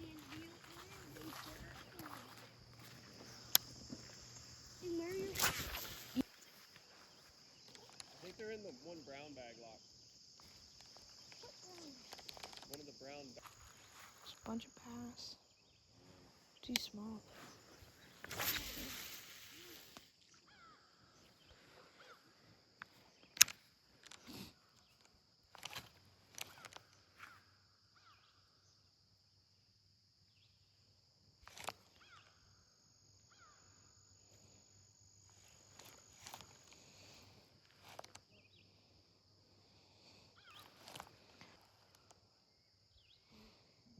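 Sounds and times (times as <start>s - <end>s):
insect chorus: 0.0s - 43.9s.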